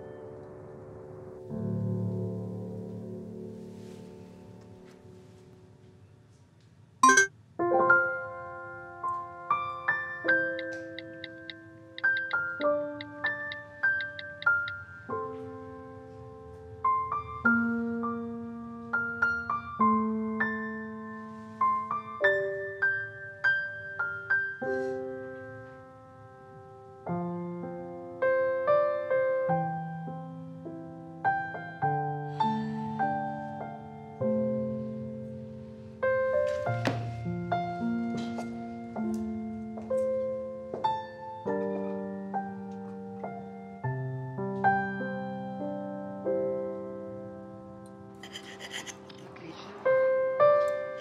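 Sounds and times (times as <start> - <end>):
gentle solo piano piece: 7.0 - 48.1.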